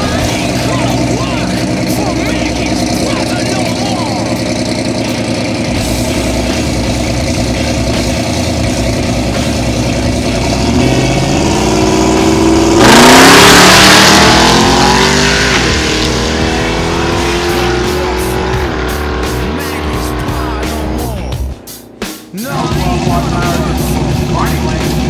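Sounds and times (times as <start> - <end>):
drag racing car engine revving: 0.0 - 25.0.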